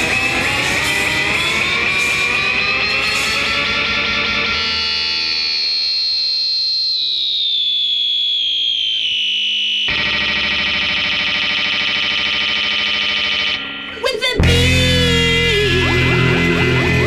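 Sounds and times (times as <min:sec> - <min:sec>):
distorted electric guitar: 0:00.0 - 0:06.4, 0:09.8 - 0:17.0.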